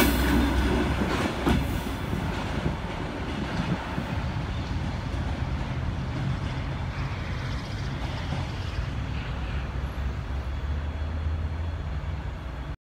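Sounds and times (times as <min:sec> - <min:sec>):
electric train running past: 0:00.0 - 0:12.8.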